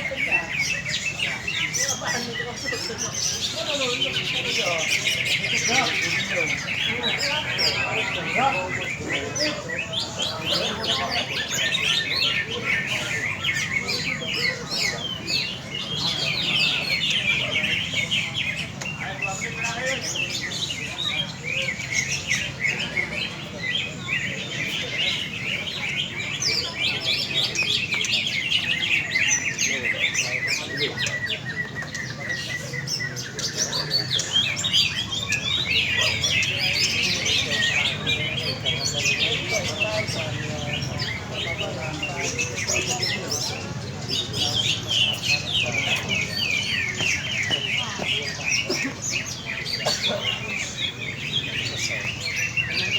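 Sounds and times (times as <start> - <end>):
many birds chirping and whistling: 0.0 - 52.9.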